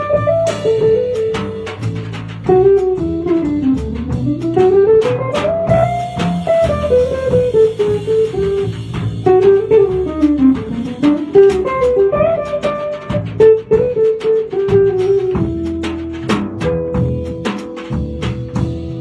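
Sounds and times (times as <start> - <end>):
drum kit with cymbals: 0.0 - 19.0
guitar melody: 0.0 - 19.0
plucked double bass: 0.0 - 19.0.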